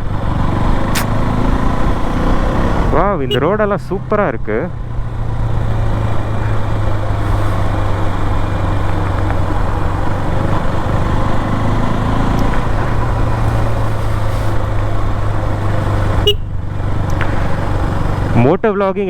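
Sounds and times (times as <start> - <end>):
motorcycle engine drone: 0.0 - 19.0
wind and road noise: 0.0 - 19.0.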